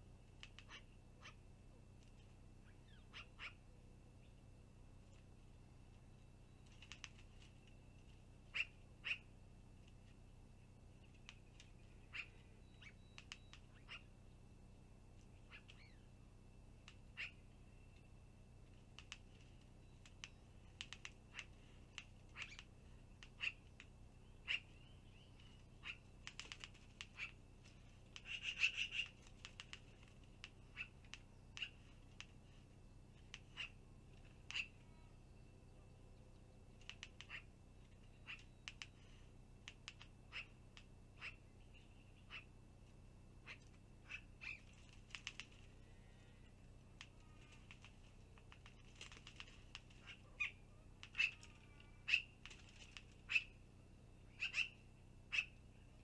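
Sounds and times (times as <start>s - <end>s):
sharp bird calls and clicks: 0.1s - 56.0s.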